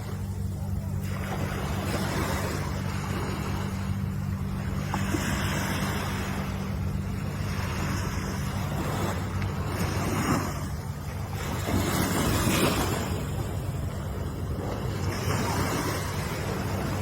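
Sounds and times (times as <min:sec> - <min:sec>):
low hum: 0:00.0 - 0:17.0
ocean surf washing in: 0:01.0 - 0:17.0.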